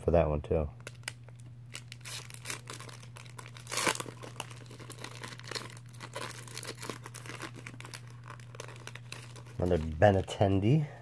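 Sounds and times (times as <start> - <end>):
low steady hum: 0.0 - 11.0
packaging tearing: 0.8 - 10.3
card packaging crinkling: 0.8 - 10.7.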